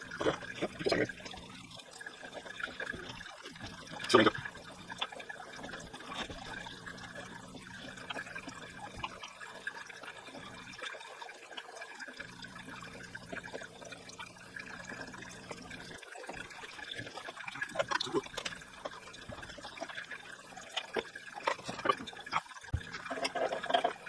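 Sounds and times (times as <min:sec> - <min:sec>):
water trickling through hose: 0:00.0 - 0:24.0.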